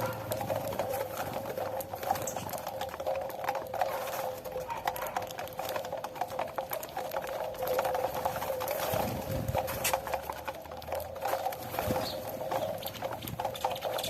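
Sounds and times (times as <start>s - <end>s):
birds pecking at corn: 0.0s - 14.0s.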